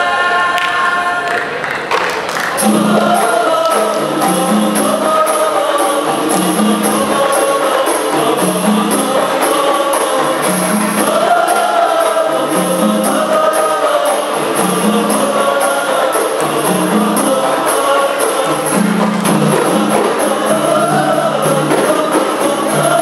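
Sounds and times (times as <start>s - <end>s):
boys singing together: 0.0s - 1.6s, 2.6s - 23.0s
frame drums: 2.5s - 23.0s
jingling tambourines: 2.6s - 23.0s.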